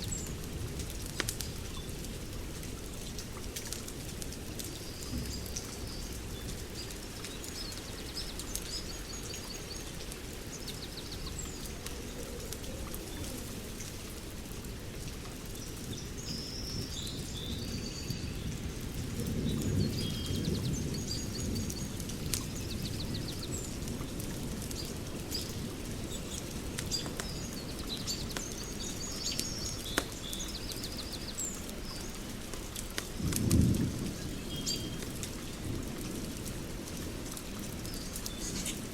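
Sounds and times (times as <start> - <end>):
fire crackling: 0.0 - 17.6, 18.5 - 38.9.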